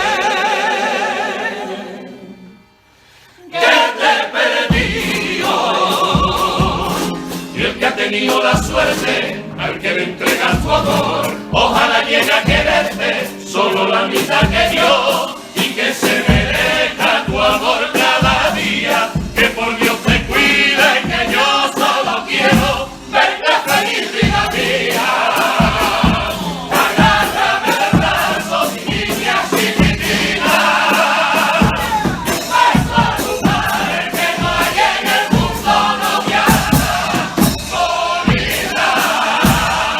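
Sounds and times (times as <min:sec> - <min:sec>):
choir singing: 0:00.0 - 0:02.8, 0:03.4 - 0:39.9
instrumental accompaniment: 0:01.3 - 0:39.9
crowd noise: 0:03.6 - 0:39.9
steady drum beat: 0:04.7 - 0:39.9.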